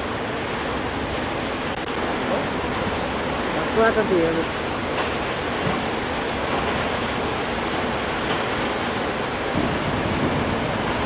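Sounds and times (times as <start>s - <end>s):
water rushing through dam spillway: 0.0s - 11.0s.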